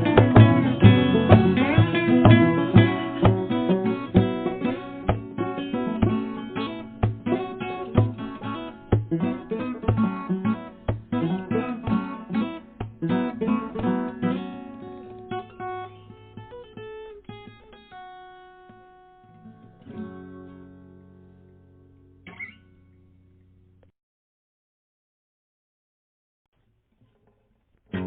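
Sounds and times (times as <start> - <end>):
acoustic guitar strumming and picking: 0.0 - 23.0.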